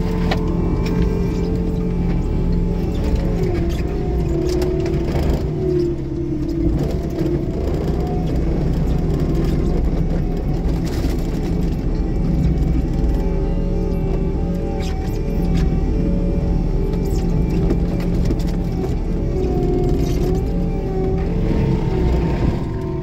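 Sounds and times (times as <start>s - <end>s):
engine drone: 0.0s - 23.0s
mulcher whine: 0.0s - 23.0s.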